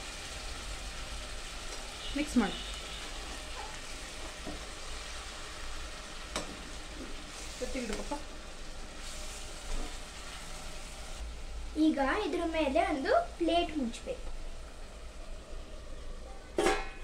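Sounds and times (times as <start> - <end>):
gravy sizzling in a pot: 0.0 - 17.0.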